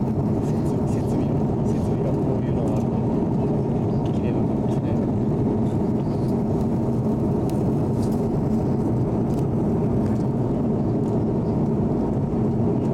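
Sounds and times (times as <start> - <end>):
airplane cabin engine rumble: 0.0 - 12.9.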